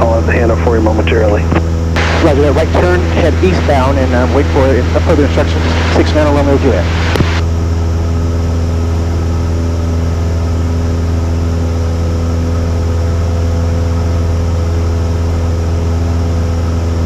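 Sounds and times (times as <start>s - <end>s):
airplane engine droning in cabin: 0.0s - 17.0s.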